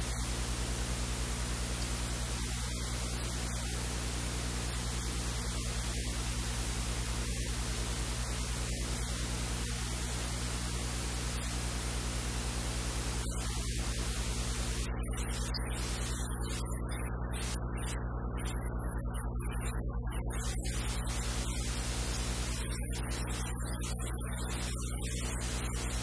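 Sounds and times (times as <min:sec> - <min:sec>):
low electrical hum: 0:00.0 - 0:26.0
static hiss: 0:00.0 - 0:26.0.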